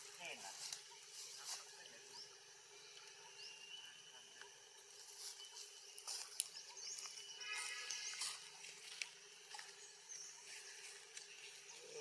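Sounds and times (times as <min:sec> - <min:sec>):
faint high chirps: 0:00.8 - 0:12.0.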